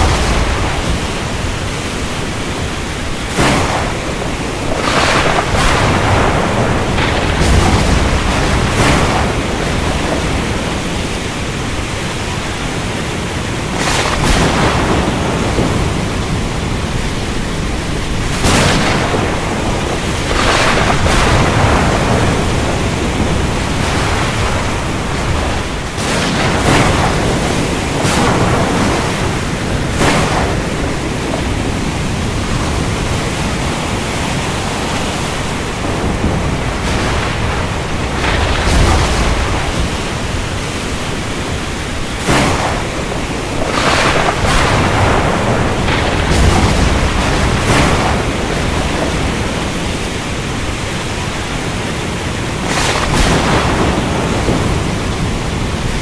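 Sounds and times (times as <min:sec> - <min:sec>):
heavy rain: 0:00.0 - 0:56.0
thunder cracks: 0:00.0 - 0:56.0.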